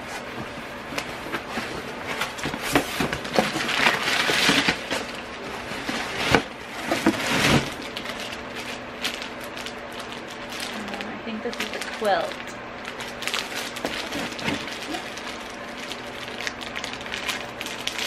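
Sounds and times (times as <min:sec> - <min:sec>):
packing paper crackling: 0:01.0 - 0:18.0.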